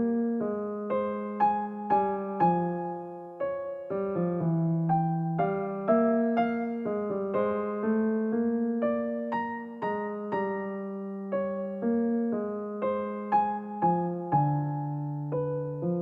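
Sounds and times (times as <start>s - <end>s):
soft electric piano melody: 0.0s - 16.0s.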